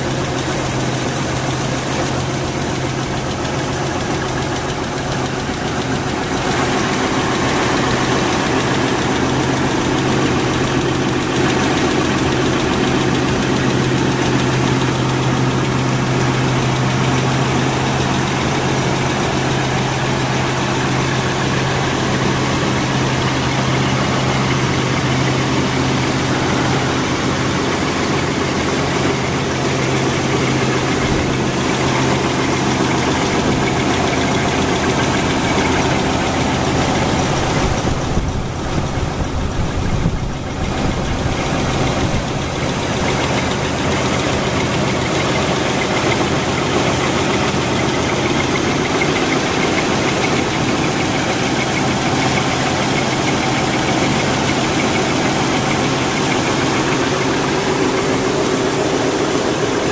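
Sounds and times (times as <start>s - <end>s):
gasoline engine running: 0.0s - 59.9s.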